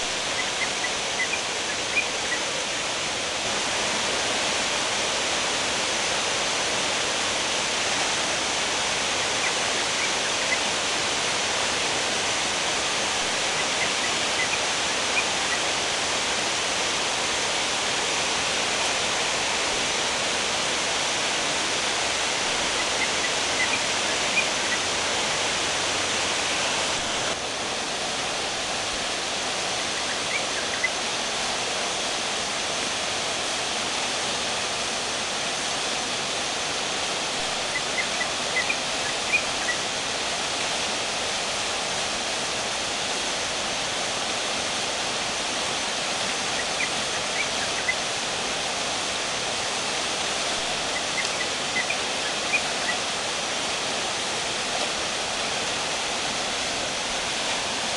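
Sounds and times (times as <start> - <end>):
waterfall rushing over rocks: 0.0 - 57.9.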